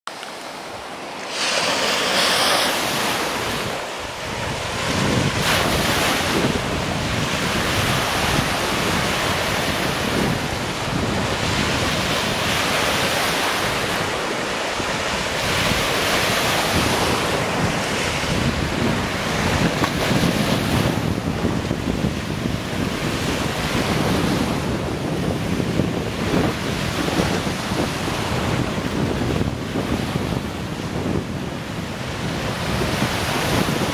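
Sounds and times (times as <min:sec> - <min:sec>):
waves breaking on sandy shore: 0:00.1 - 0:33.9
wind buffeting microphone: 0:00.7 - 0:33.9.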